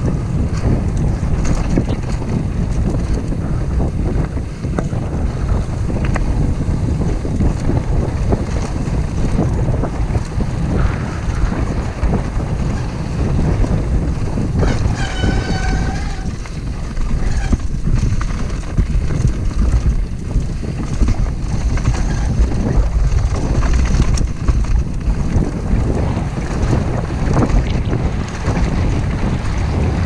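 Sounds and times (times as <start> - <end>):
bike rattling and knocking: 0.0 - 30.0
wind buffeting microphone: 0.0 - 30.0.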